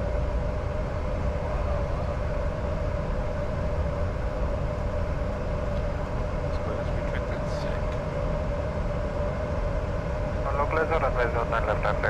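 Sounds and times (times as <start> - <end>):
jet airflow and engine rumble: 0.0 - 12.0
steady hum: 0.0 - 12.0.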